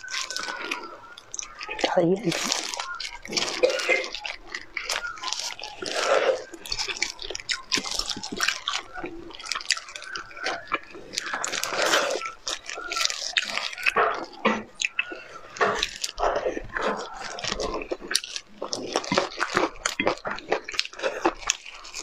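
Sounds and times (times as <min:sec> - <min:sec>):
chewing and mouth smacks: 0:00.0 - 0:22.0
meat being torn apart: 0:00.0 - 0:22.0.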